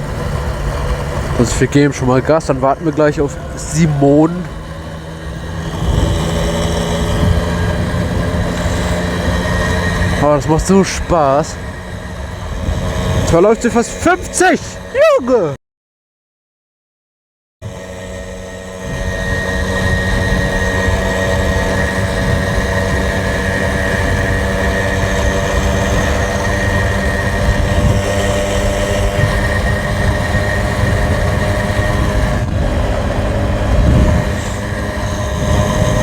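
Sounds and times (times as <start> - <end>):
wind rushing over microphone: 0.0 - 15.0, 18.4 - 36.0
moped engine at high revs: 0.0 - 15.6, 17.6 - 36.0.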